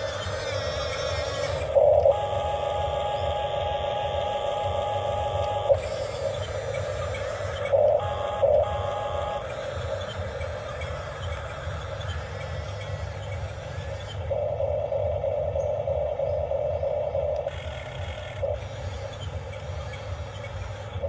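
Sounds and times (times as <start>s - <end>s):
toy excavator motors and gears: 0.0s - 21.0s.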